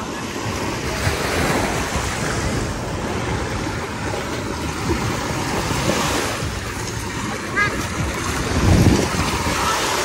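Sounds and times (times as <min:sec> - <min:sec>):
sea surf washing on shore: 0:00.0 - 0:10.0
wind buffeting microphone: 0:00.0 - 0:10.0.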